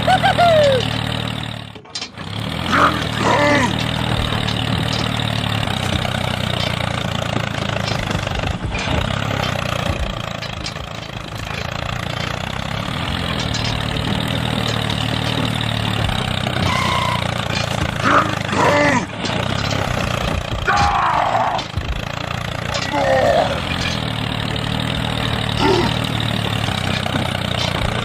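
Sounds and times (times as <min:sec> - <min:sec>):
small engine idling: 0:00.0 - 0:28.0.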